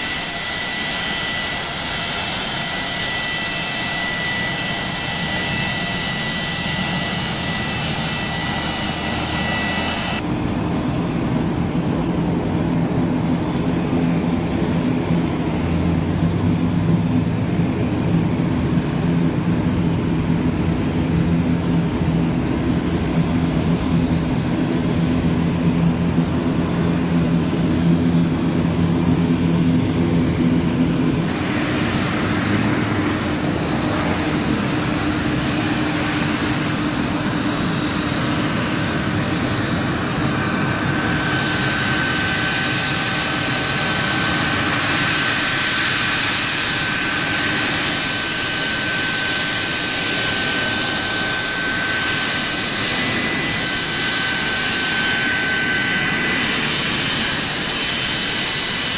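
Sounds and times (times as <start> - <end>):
high-pitched turbine whine: 0.0 - 58.9
jet engines rushing: 0.0 - 58.9.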